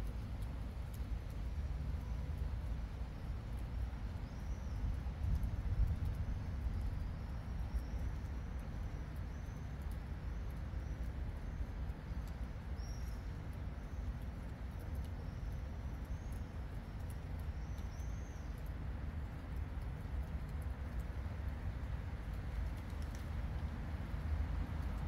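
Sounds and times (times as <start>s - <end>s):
rain falling on foliage: 0.0s - 25.0s.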